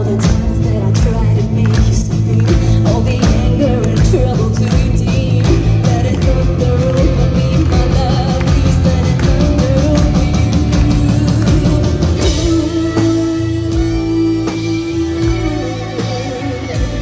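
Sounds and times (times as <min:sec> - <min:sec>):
distorted guitars: 0:00.0 - 0:17.0
fast driving drums: 0:00.0 - 0:17.0
keyboards: 0:00.0 - 0:17.0
person singing: 0:00.0 - 0:17.0.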